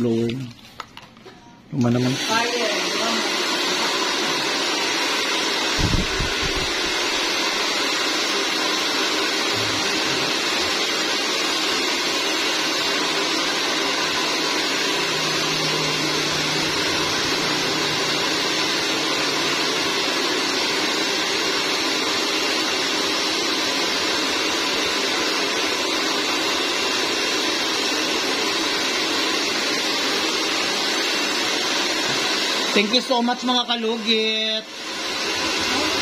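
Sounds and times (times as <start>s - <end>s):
air blower whooshing: 2.2s - 33.7s, 34.6s - 36.0s.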